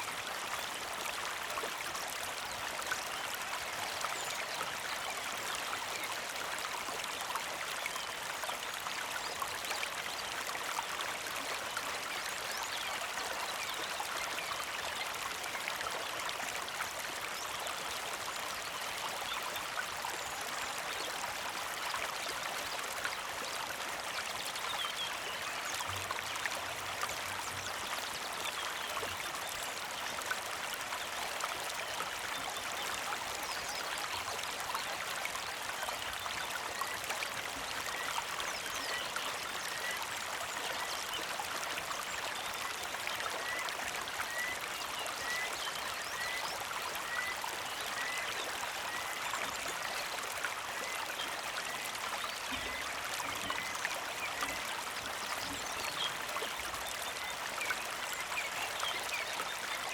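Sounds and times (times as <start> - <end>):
creek trickling: 0.0 - 59.9.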